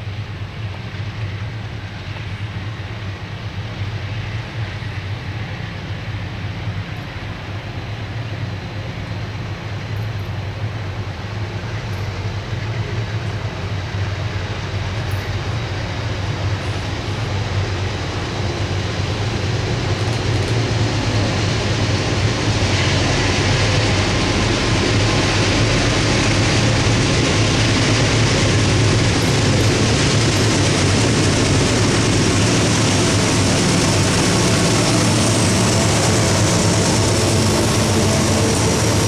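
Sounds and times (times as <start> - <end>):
train approaching on rails: 0.0 - 39.0.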